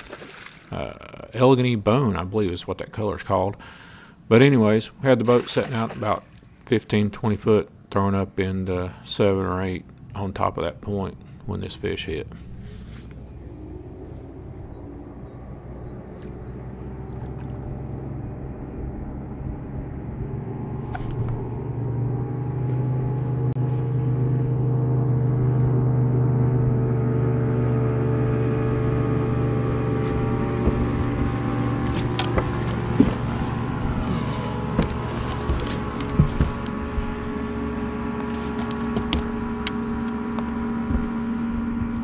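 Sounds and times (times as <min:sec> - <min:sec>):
boat motor humming: 0:00.0 - 0:42.0.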